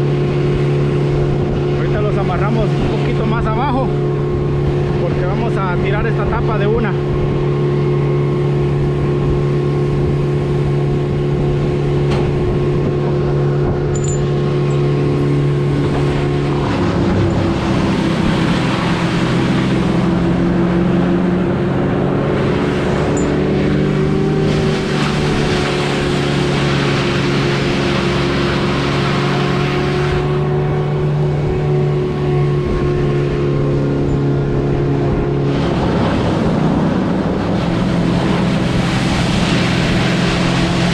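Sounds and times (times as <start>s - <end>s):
harsh rushing noise: 0.0s - 40.9s.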